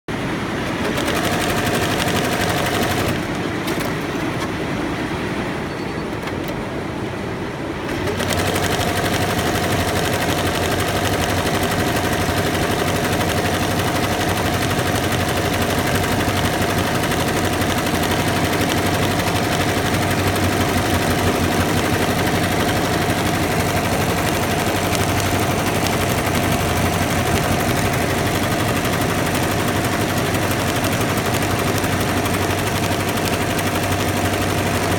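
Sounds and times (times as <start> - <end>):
embroidery machine needle clatter: 0.6 - 4.3, 7.9 - 34.9.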